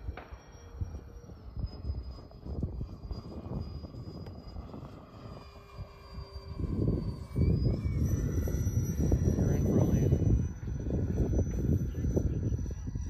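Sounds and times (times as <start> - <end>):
model jet electric fans whining: 0.0 - 13.0.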